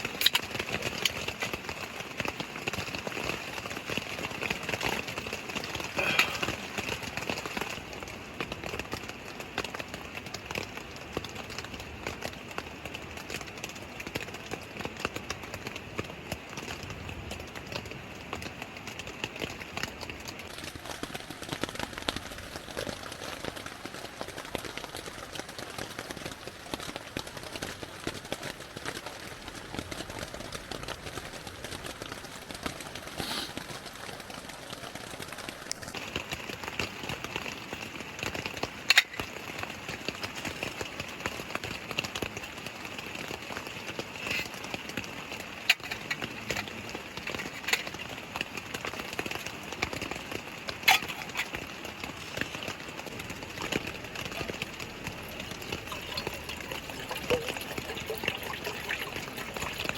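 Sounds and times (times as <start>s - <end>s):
mountain stream rushing: 0.0s - 59.9s
rain drops tapping: 0.0s - 59.9s.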